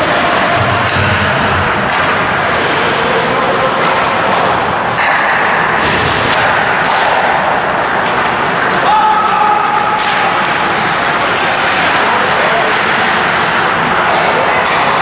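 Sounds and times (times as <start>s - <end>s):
din of play and spectators: 0.0s - 15.0s
hockey sticks and puck knocking: 0.0s - 15.0s.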